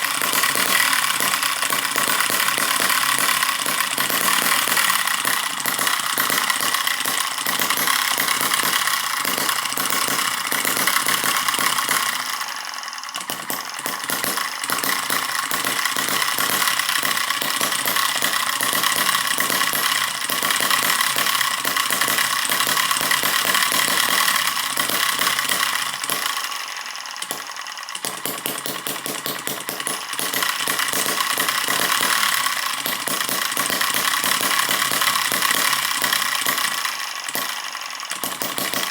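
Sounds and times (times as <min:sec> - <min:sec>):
miniature engine running: 0:00.0 - 0:38.9.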